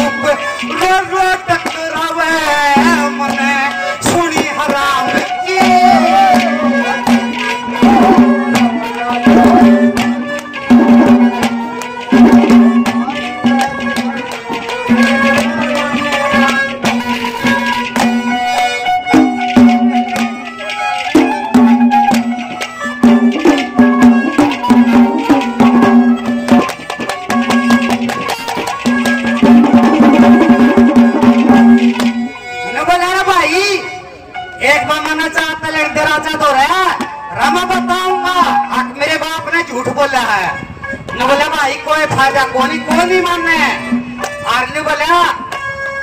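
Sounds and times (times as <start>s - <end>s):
hand drum rhythm: 0.0s - 32.5s, 36.5s - 39.6s, 42.1s - 45.7s
folk melody over a drone: 0.0s - 46.0s.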